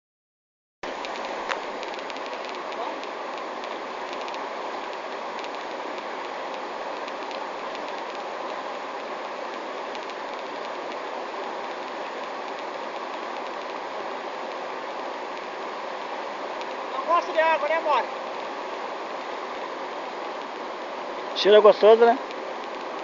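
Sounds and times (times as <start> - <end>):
stream water rushing: 0.8 - 23.0.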